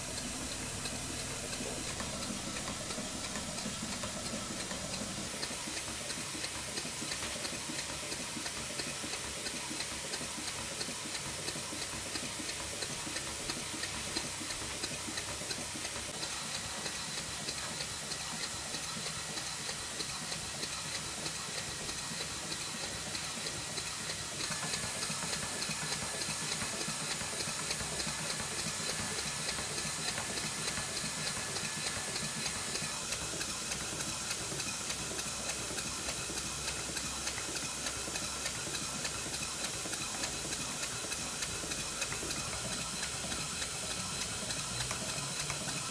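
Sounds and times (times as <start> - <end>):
model steam engine chuffing: 0.0 - 45.9.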